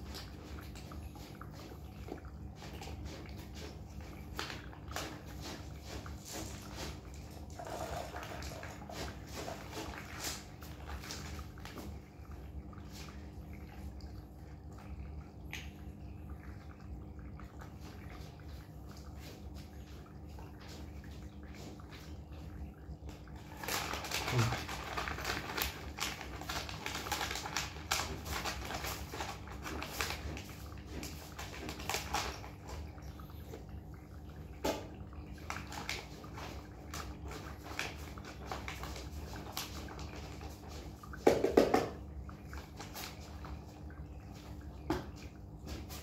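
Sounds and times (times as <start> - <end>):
kittens eating: 0.0 - 41.2.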